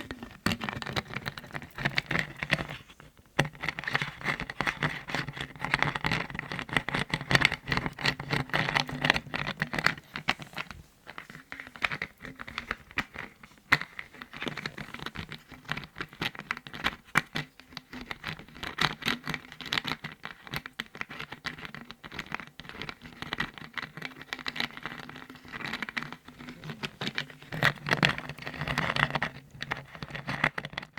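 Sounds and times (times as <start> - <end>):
tapping and scratching on lids: 0.0 - 30.9.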